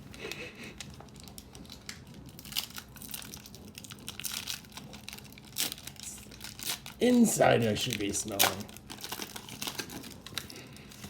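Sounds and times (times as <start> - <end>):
plastic wrapper crinkling: 0.1 - 11.0.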